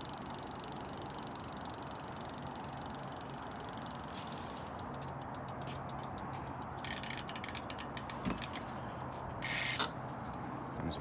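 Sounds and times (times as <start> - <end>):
bike hub ratchet clicking: 0.0 - 8.7, 9.3 - 10.0.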